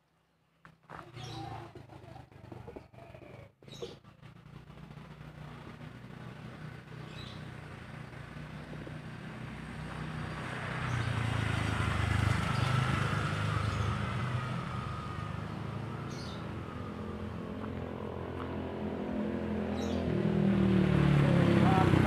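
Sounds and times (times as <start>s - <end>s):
vehicle engine passing: 0.8s - 22.0s.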